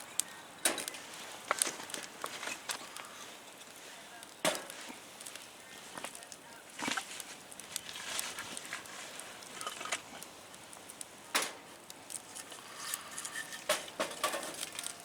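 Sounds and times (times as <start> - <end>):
campfire crackling: 0.0 - 15.0
fire pops and snaps: 0.0 - 15.0.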